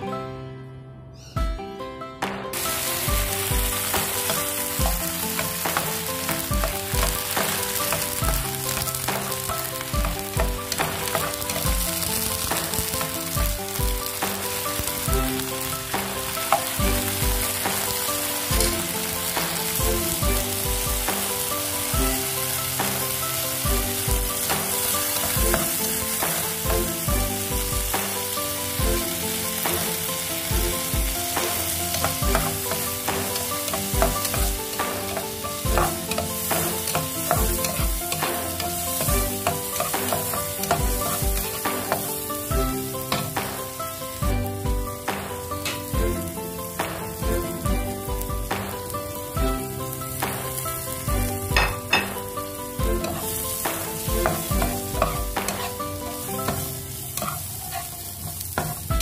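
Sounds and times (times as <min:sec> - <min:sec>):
beans sizzling in oil: 0:02.5 - 0:59.0
spatula turning food in pan: 0:02.6 - 0:49.4, 0:50.0 - 0:59.0.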